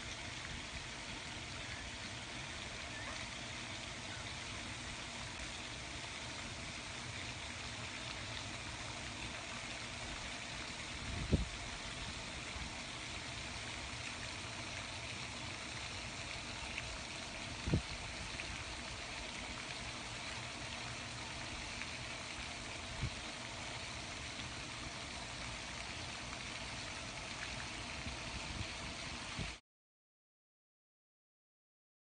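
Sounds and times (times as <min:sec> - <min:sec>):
outdoor background noise: 0:00.0 - 0:29.6.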